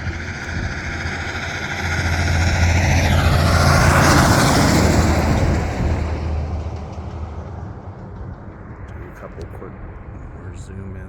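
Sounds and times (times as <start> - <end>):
vehicle passing on highway: 0.0 - 11.0.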